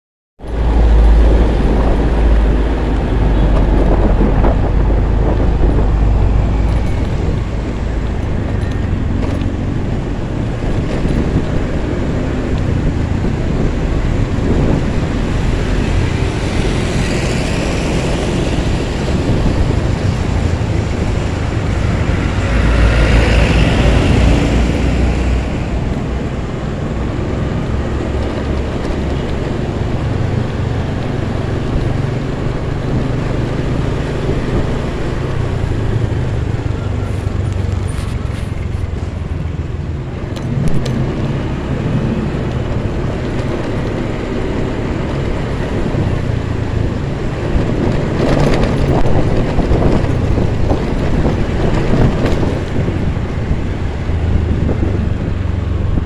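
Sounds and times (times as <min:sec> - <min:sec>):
road noise: 0:00.4 - 0:56.0
scooter engine: 0:00.5 - 0:56.0
wind buffeting microphone: 0:00.5 - 0:56.0.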